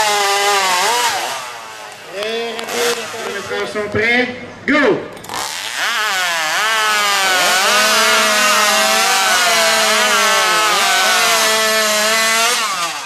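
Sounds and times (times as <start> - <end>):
chainsaw cutting through log: 0.0 - 3.7, 5.2 - 13.0.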